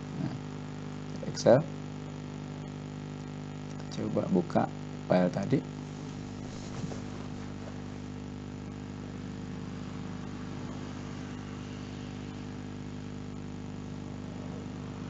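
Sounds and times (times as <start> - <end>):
constant hiss: 0.0 - 15.0
low electrical hum: 0.0 - 15.0.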